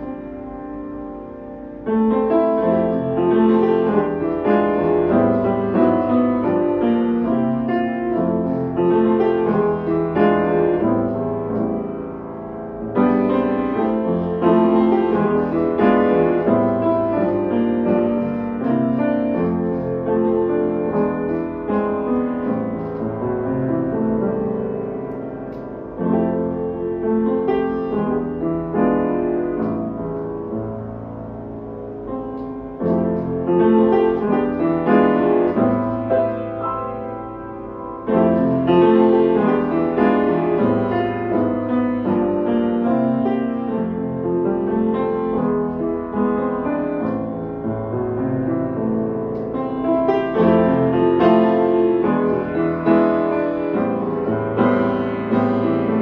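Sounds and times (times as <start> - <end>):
upright piano playing: 0.0 - 56.0.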